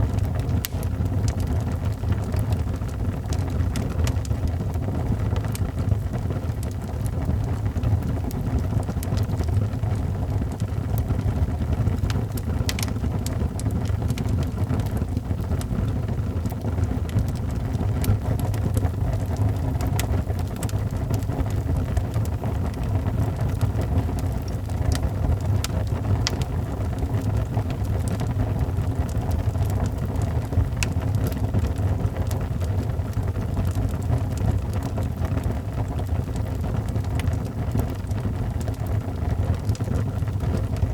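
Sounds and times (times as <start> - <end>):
fire popping and snapping: 0.0 - 40.9
low fire rumble: 0.0 - 40.9
wood fire crackling: 0.0 - 40.9.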